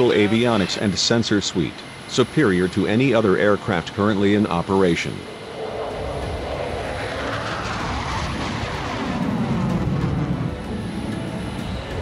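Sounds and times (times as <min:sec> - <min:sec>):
fighter jet flying past: 0:01.8 - 0:12.0.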